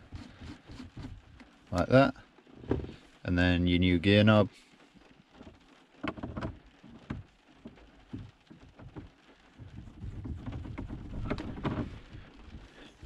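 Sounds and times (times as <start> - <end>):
rain on car roof: 0.0 - 13.0.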